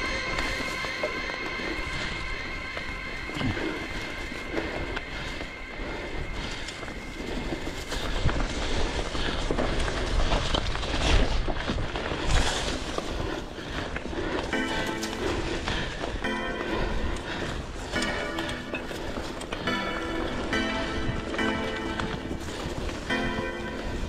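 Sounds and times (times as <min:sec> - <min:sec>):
bike tyre rumble on dirt: 0:00.0 - 0:24.0.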